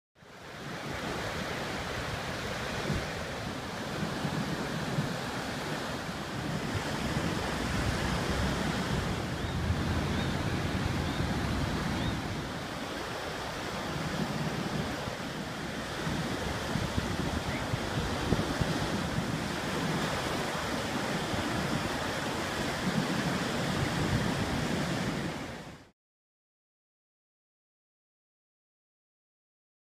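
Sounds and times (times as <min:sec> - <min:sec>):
ocean surf breaking: 0:00.3 - 0:25.9.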